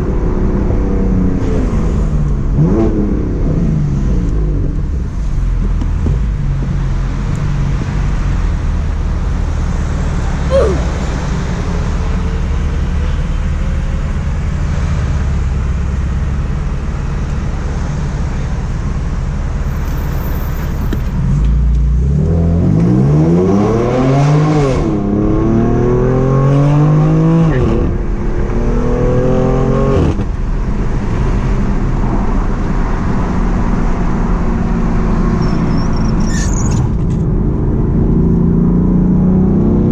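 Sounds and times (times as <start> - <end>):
car cruising: 0.0 - 39.9
car engine accelerating: 0.0 - 39.9.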